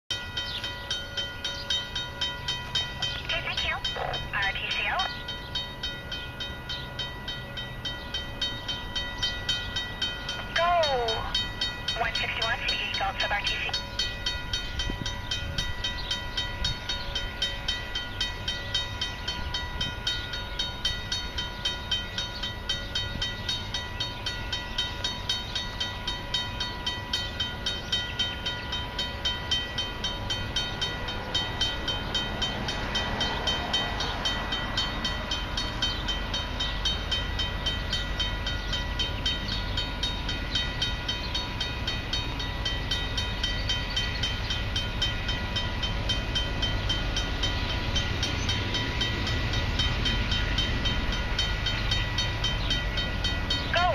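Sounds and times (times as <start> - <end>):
freight train rumbling: 0.1 - 53.9
level-crossing warning bell: 0.1 - 53.9.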